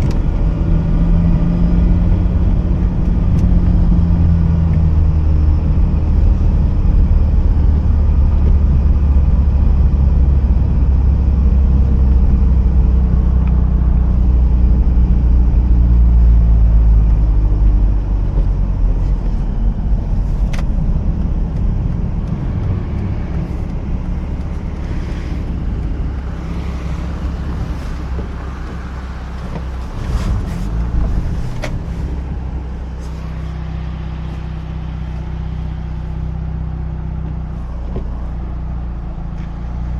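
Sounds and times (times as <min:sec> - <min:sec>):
car engine running: 0:00.0 - 0:39.9
road and tyre noise: 0:00.0 - 0:39.9.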